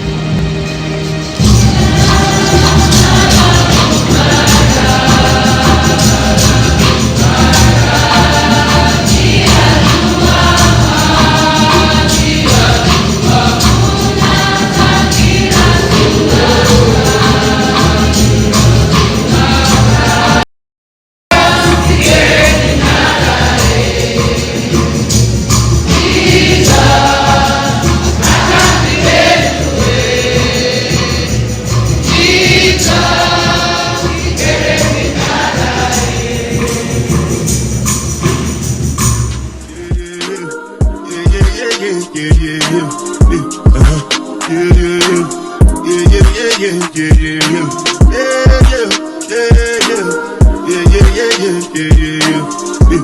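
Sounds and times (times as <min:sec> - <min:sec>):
instrumental accompaniment: 0:00.0 - 0:20.4, 0:21.3 - 0:53.0
choir singing gospel: 0:00.0 - 0:20.5, 0:21.3 - 0:53.0.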